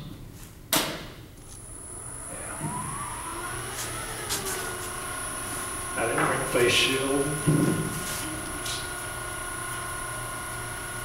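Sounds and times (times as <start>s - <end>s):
wood lathe motor whine: 1.4s - 11.0s.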